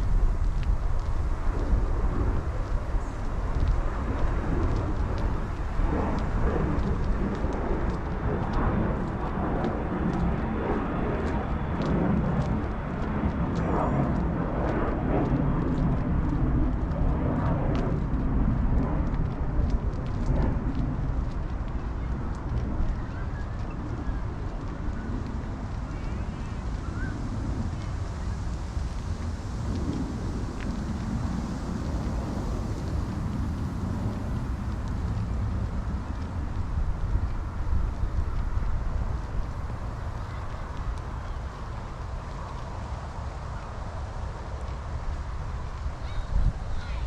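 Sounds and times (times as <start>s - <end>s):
indistinct outdoor sounds: 0.0s - 47.0s
wind on microphone: 0.0s - 47.0s.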